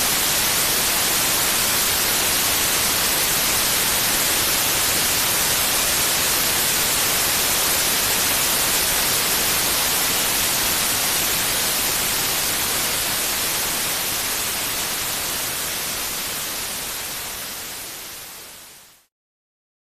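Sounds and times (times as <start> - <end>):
white noise hiss: 0.0 - 19.1.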